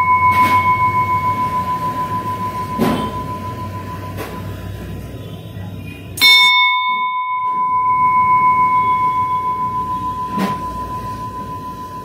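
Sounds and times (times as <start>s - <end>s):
large bell ringing: 0.0s - 5.0s, 6.2s - 12.0s.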